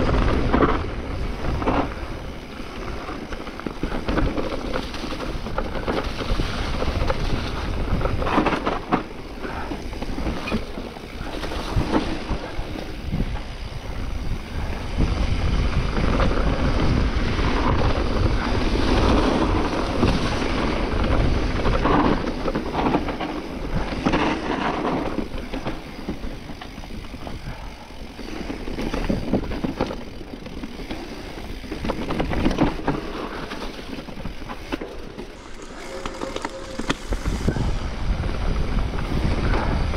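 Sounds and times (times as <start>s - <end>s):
bike rattling over dirt trail: 0.0s - 39.9s
wind on microphone: 0.0s - 39.9s.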